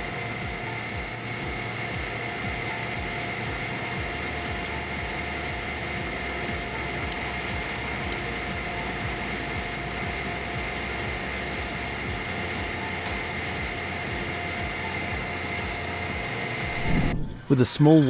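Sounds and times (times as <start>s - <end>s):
excavator engine and hydraulics: 0.0s - 18.0s
high hydraulic whine: 0.0s - 18.0s.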